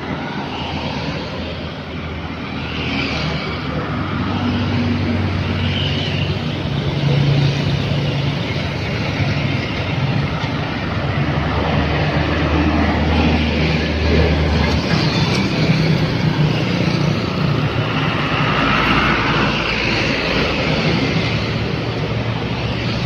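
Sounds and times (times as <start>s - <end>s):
car passing: 0.0s - 23.0s
diesel truck engine: 0.0s - 23.0s.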